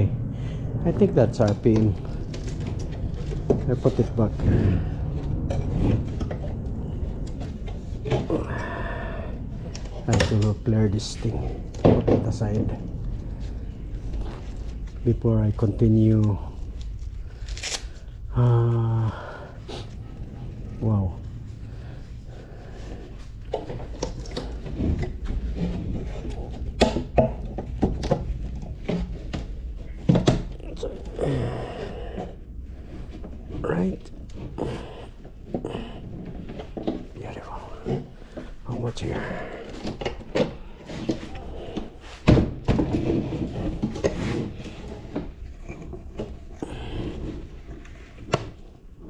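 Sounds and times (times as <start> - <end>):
objects knocking and thudding: 1.3 - 15.7, 22.7 - 49.0.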